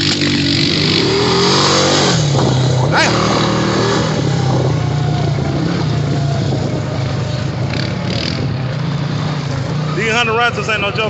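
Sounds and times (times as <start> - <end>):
quad bike engine running: 0.0 - 11.0
rush of terrain and wind: 0.0 - 11.0.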